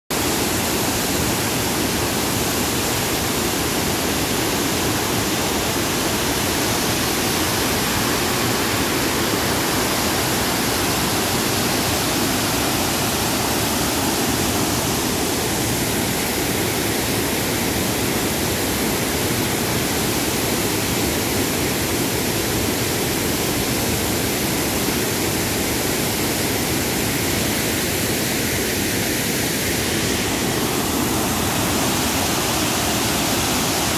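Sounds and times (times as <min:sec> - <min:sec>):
water pouring down spillway: 0:00.2 - 0:27.4, 0:29.8 - 0:33.9.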